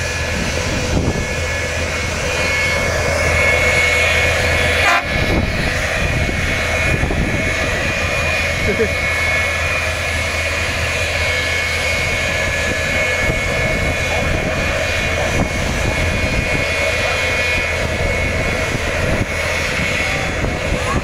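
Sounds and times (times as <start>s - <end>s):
jet engine whine and rush: 0.0s - 21.0s.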